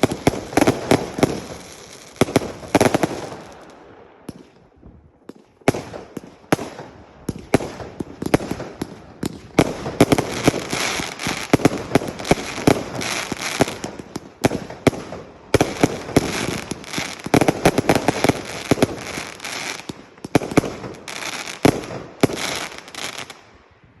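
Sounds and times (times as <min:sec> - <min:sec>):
fireworks crackling: 0:00.0 - 0:04.6, 0:05.2 - 0:23.7
fireworks bangs: 0:00.0 - 0:23.4.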